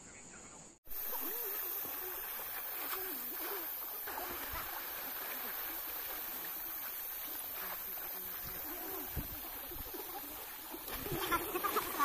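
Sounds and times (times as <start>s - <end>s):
river water rushing and splashing: 0.9s - 12.0s.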